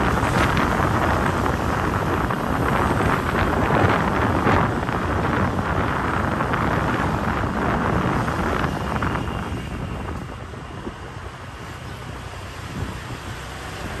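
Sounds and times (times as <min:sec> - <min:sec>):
vehicle road noise: 0:00.0 - 0:14.0
wind buffeting microphone: 0:00.0 - 0:14.0.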